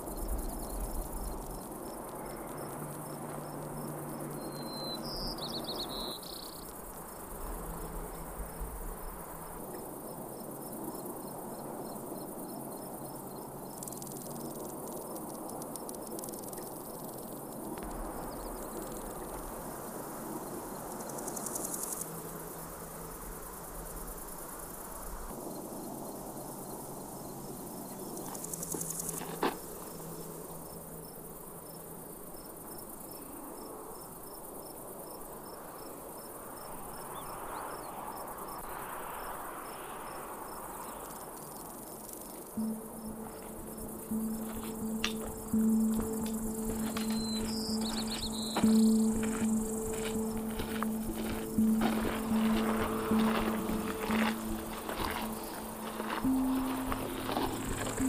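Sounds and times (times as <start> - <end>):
insects chirping: 0.0 - 58.0
soft steady hiss: 0.0 - 58.0.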